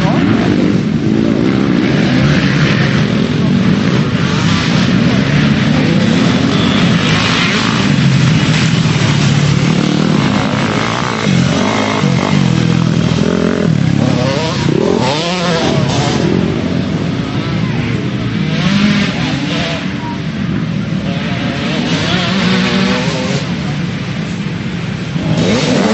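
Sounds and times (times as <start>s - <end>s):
motocross bike engines revving: 0.0s - 25.9s.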